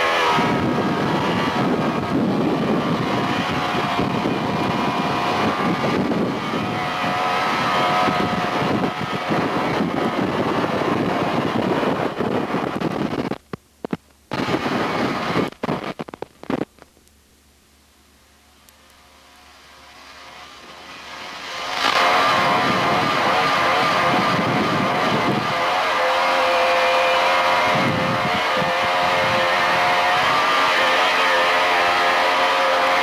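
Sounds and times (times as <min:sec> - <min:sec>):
engine rumbling with faint whine: 0:00.0 - 0:33.0.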